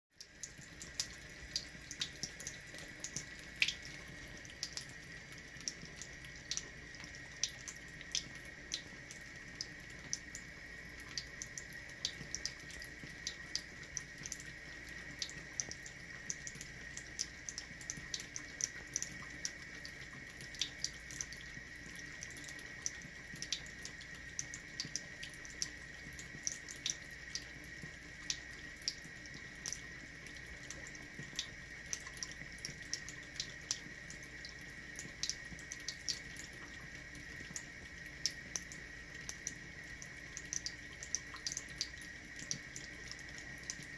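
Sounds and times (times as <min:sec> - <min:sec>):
faucet water running into sink: 0:00.2 - 0:43.9.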